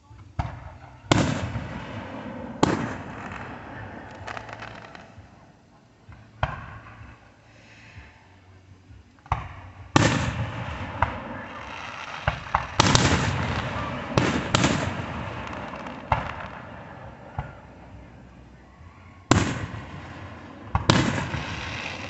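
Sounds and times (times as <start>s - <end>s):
fireworks bangs and crackling: 0.2s - 7.3s, 9.2s - 18.5s, 19.2s - 22.0s.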